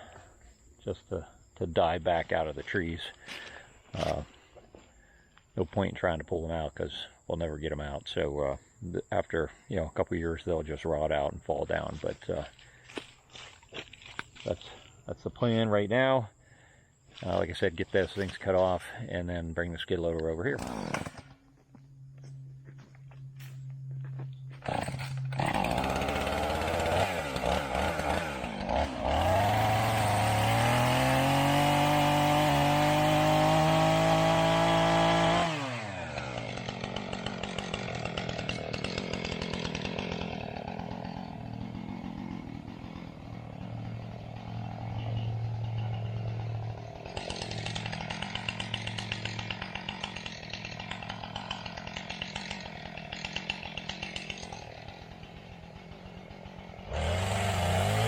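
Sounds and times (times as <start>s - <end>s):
chainsaw revving and idling: 0.0s - 21.6s, 24.2s - 58.0s.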